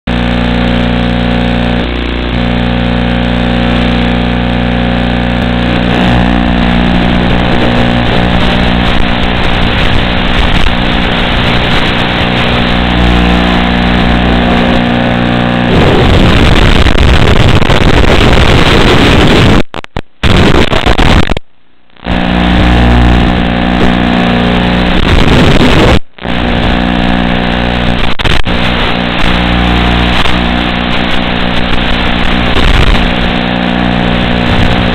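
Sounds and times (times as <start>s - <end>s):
drone motors buzzing: 0.1s - 19.6s, 22.0s - 34.9s.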